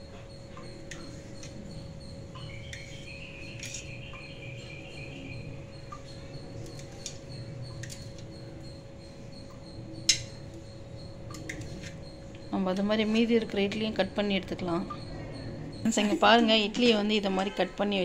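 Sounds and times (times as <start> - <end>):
high wavering chirp: 0.0 - 17.2.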